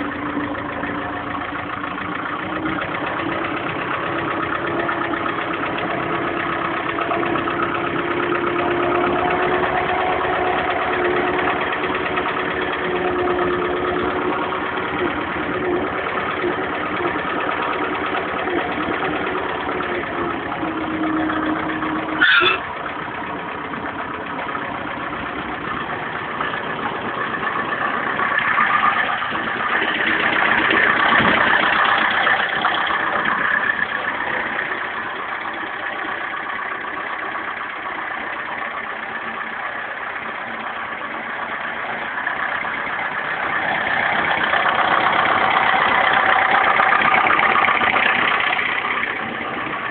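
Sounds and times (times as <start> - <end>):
tractor diesel engine idling: 0.0 - 49.9.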